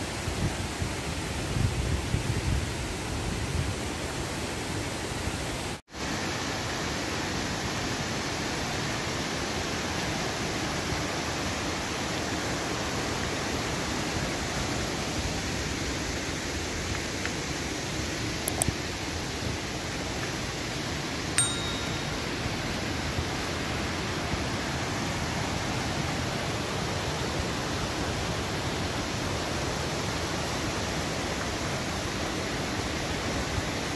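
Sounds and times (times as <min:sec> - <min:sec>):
waterfall rushing: 0:06.0 - 0:33.9.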